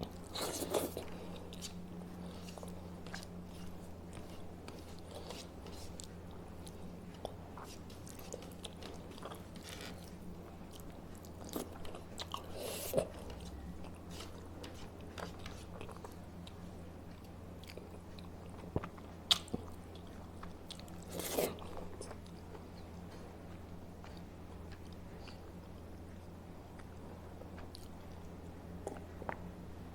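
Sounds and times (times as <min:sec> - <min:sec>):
person chewing: 0:00.0 - 0:25.9, 0:26.7 - 0:28.0
steady low hum: 0:00.0 - 0:29.9.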